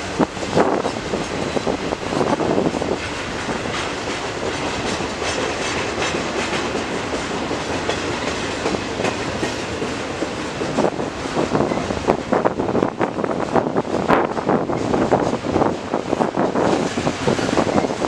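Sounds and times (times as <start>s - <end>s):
train wheels rumbling on rails: 0.0s - 18.0s
wheels clicking over rail joints: 0.0s - 18.0s.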